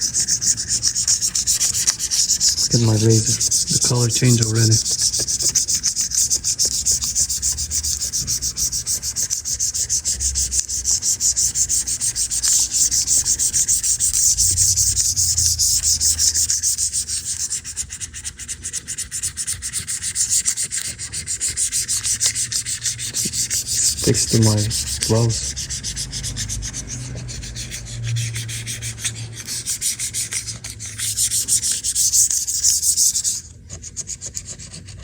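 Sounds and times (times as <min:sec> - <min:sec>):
razor blade scraping grime: 0:00.0 - 0:35.0.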